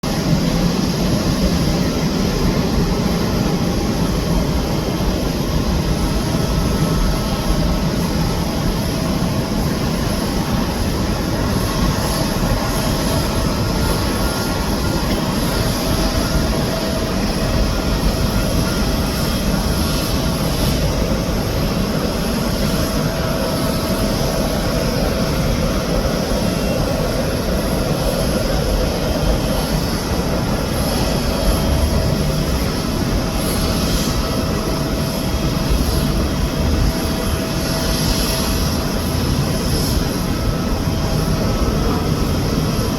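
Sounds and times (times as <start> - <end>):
jet engines rumbling: 0.0 - 42.9.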